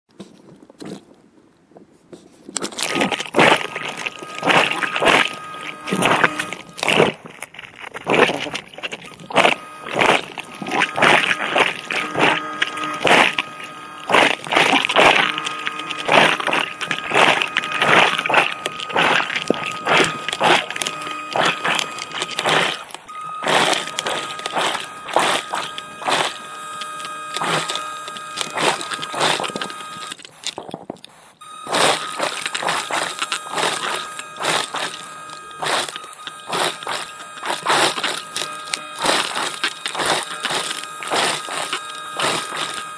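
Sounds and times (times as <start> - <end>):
crackling clicks: 2.5 - 42.9
underwater motor whining: 2.6 - 42.9.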